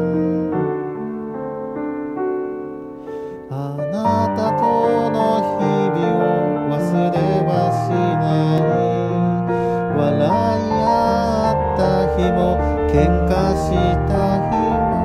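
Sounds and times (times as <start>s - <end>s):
person singing: 0.0s - 1.2s, 3.3s - 15.0s
piano ballad backing track: 0.0s - 15.0s.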